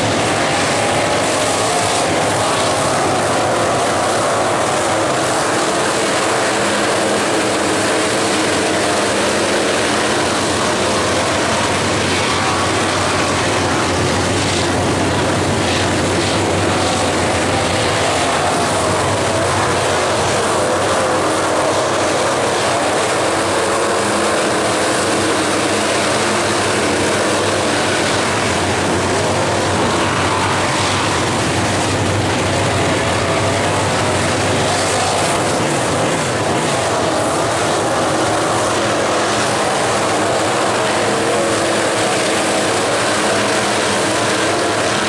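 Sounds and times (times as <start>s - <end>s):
race car engines droning: 0.0s - 45.0s.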